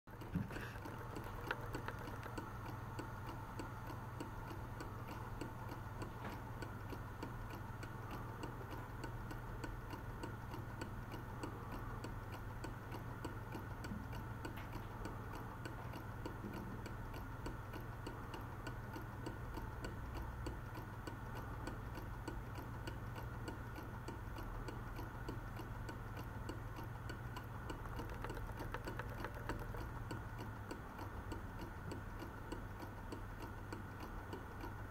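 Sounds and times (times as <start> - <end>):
clock ticking: 0.1 - 34.9
low steady hum: 0.1 - 34.9.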